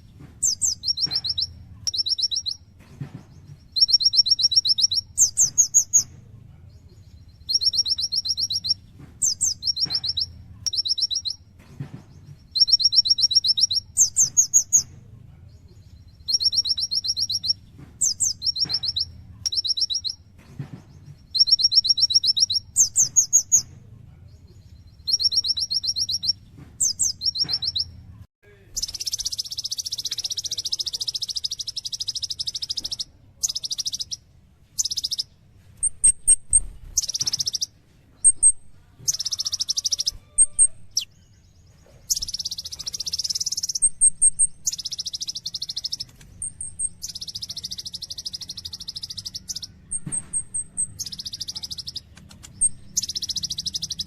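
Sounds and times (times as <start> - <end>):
bird singing high trills: 0.0 - 2.7, 3.3 - 6.1, 7.0 - 11.5, 12.1 - 14.9, 15.9 - 20.2, 21.0 - 23.7, 24.7 - 28.0, 28.8 - 34.2, 34.8 - 54.0
bird twittering: 0.0 - 6.1, 6.9 - 11.5, 12.1 - 14.9, 15.8 - 20.2, 20.9 - 23.7, 24.6 - 28.0, 28.7 - 34.2, 34.8 - 54.0.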